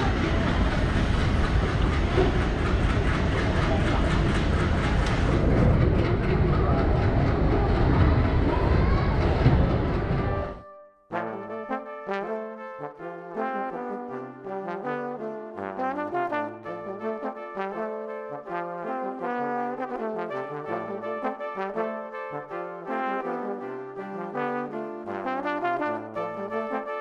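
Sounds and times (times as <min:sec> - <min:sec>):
brass melody: 0:00.0 - 0:06.5, 0:09.4 - 0:27.0.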